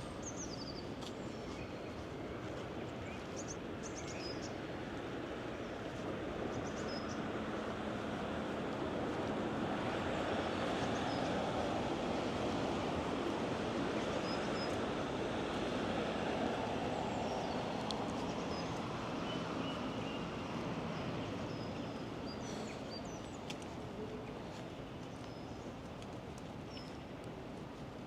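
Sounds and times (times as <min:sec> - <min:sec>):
distant city traffic: 0:00.0 - 0:28.0.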